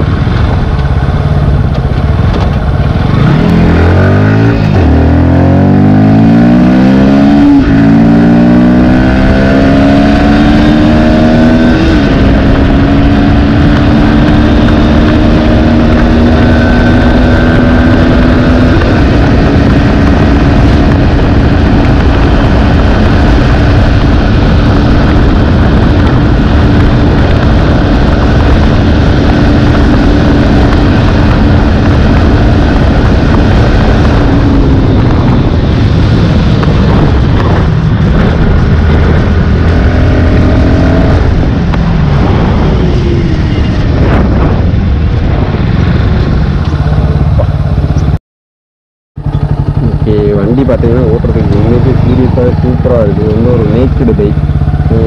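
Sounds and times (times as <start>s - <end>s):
motorcycle engine accelerating: 0.0s - 48.2s, 49.2s - 55.0s
wind rush: 0.0s - 48.2s, 49.2s - 55.0s.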